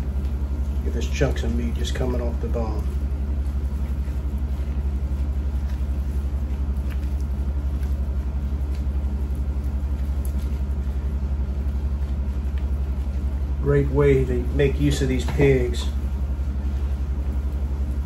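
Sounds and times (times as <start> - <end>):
low pulsing hum: 0.0 - 18.0.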